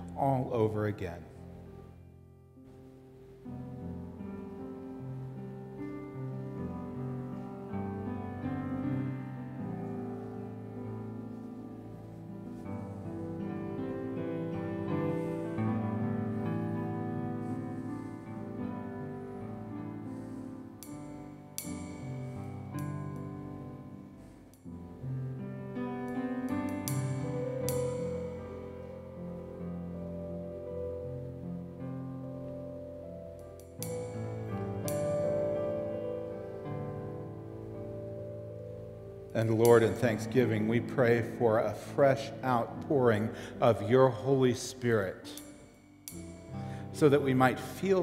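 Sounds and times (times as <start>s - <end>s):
soft keyboard chords: 0.0s - 48.0s.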